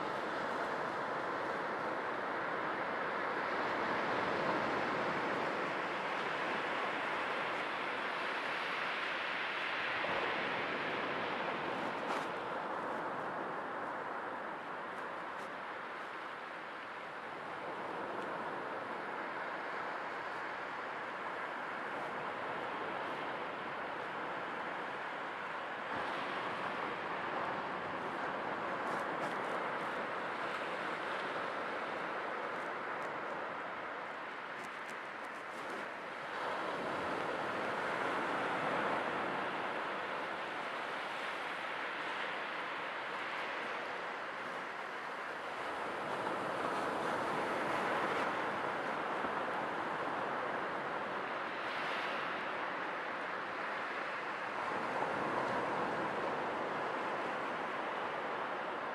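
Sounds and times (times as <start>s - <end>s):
sea waves surf: 0.0s - 58.9s.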